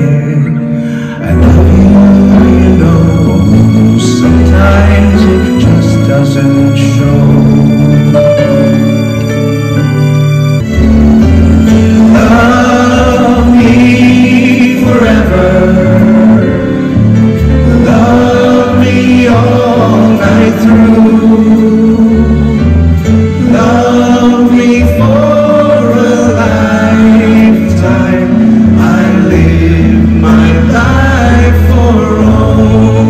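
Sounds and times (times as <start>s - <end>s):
men singing into microphones: 0.0s - 8.3s, 11.9s - 33.0s
electric bass: 0.0s - 33.0s
live band playing: 0.0s - 33.0s.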